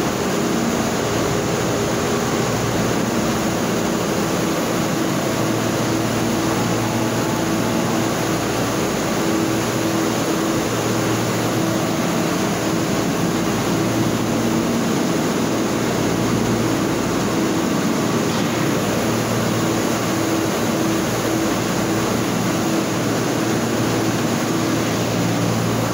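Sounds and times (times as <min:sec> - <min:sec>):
factory machinery rush: 0:00.0 - 0:25.9
low motor hum: 0:00.0 - 0:25.9.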